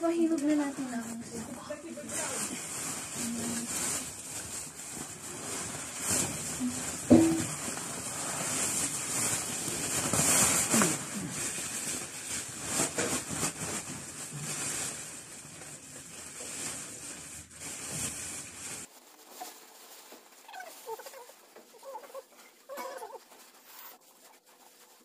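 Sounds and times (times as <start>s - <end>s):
plastic sack rustling: 0.0s - 25.0s
scrapes and shuffles: 0.1s - 25.0s.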